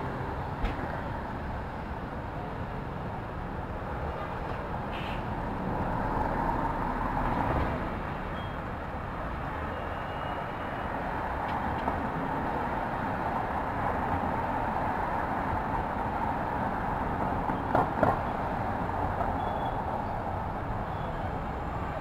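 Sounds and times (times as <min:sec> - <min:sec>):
passing vehicles: 0:00.0 - 0:22.0.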